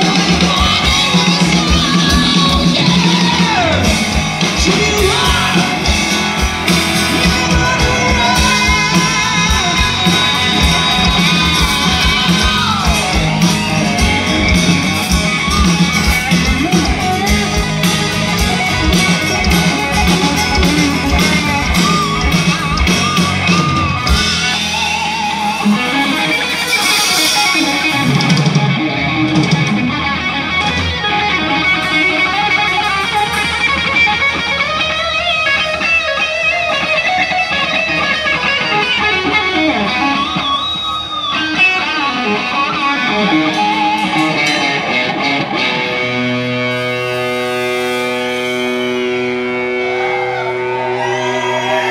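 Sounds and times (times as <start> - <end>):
drums: 0.0 - 51.9
electric guitar bending notes: 0.0 - 51.9
rock band playing live: 0.0 - 51.9.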